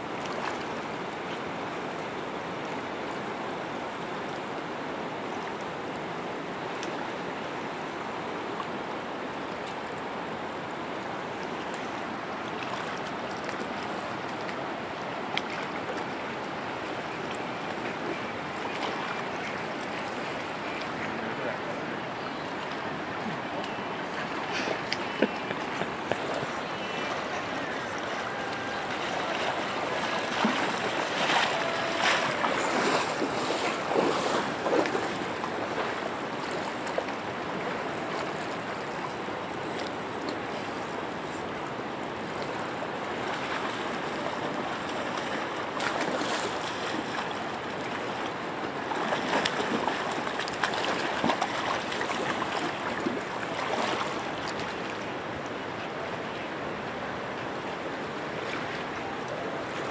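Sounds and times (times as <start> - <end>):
fast-flowing river rushing: 0.0 - 59.9.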